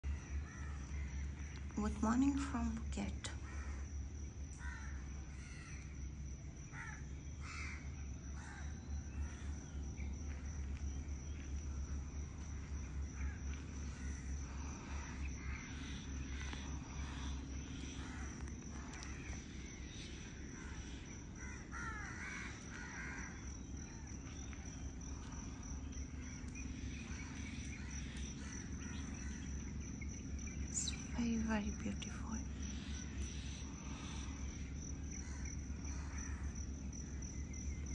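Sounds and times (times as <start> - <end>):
low hum: 0.0 - 37.9
wild birds calling: 0.0 - 37.9.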